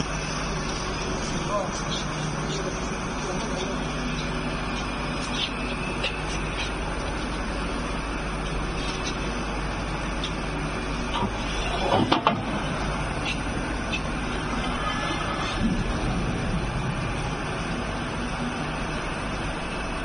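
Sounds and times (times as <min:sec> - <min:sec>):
factory machinery hum: 0:00.0 - 0:20.0.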